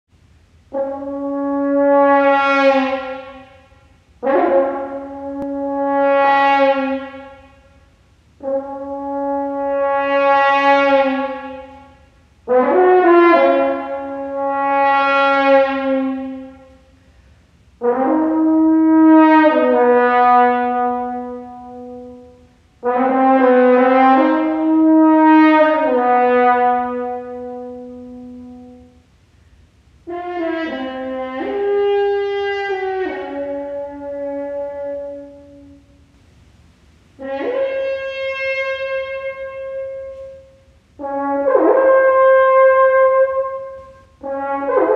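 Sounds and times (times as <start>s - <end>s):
french horn solo: 0.2s - 44.9s.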